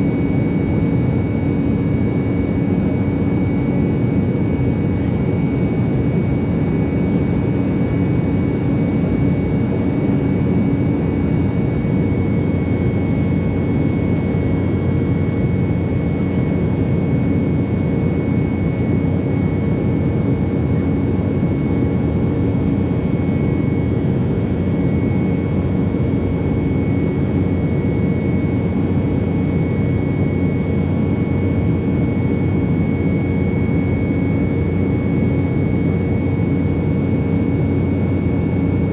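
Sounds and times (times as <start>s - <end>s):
airliner cabin jet engine drone: 0.0s - 38.9s
steady high whine: 0.0s - 38.9s.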